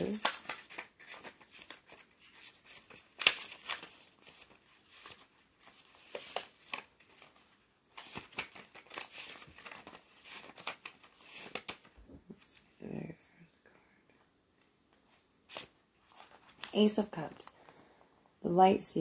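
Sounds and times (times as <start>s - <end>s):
paper pages rustling: 0.0s - 12.6s, 14.9s - 17.8s.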